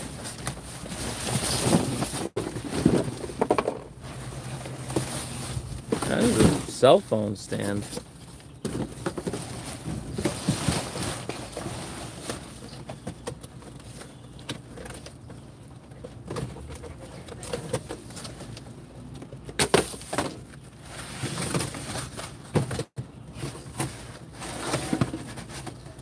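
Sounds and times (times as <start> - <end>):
cardboard and plastic bags rustling: 0.0 - 26.0.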